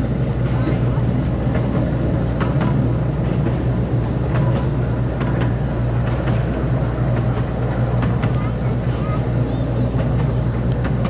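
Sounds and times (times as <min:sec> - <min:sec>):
ride train rumbling on track: 0:00.0 - 0:11.0
sharp track clicks: 0:01.4 - 0:08.6, 0:09.3 - 0:11.0.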